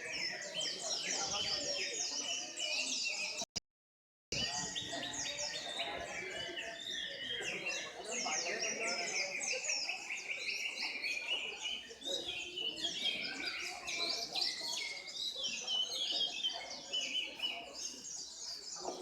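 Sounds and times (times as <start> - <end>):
birds chirping and trilling: 0.0 - 3.4, 4.4 - 19.0.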